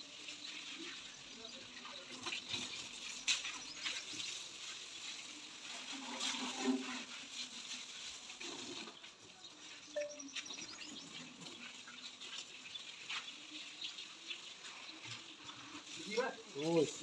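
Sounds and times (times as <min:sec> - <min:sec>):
hose water spraying on metal: 0:00.0 - 0:17.0.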